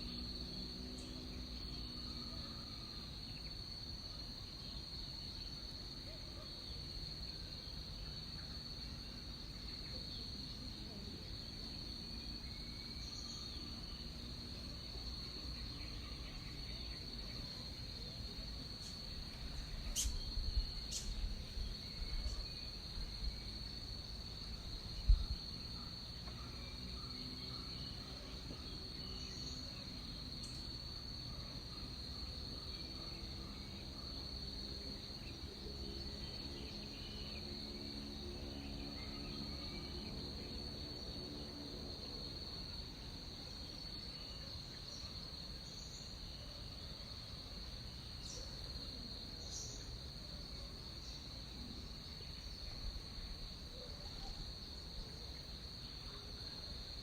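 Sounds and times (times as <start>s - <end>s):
insect chirps: 0.0s - 57.0s
insects droning: 0.0s - 57.0s.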